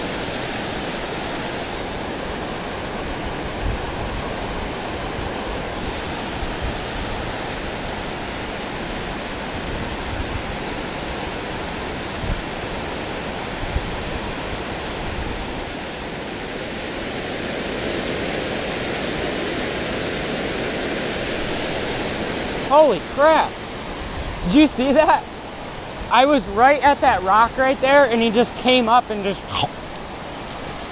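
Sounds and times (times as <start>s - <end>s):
water rushing over a dam: 0.0s - 30.9s.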